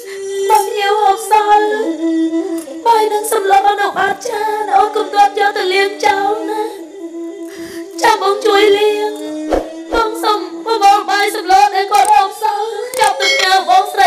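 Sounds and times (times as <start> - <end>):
person singing ornamented melody: 0.0 - 14.0.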